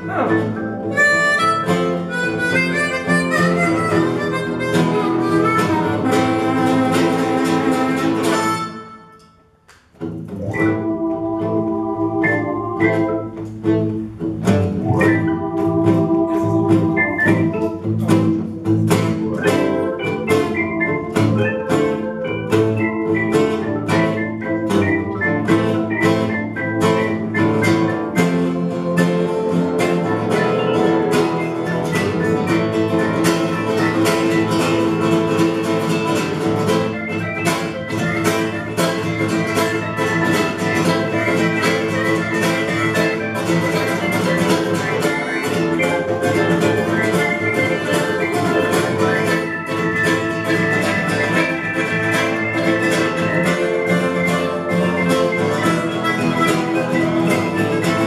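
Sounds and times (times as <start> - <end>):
harmonica notes bent: 0.0 - 9.4, 10.4 - 58.0
strummed guitar: 0.0 - 58.0.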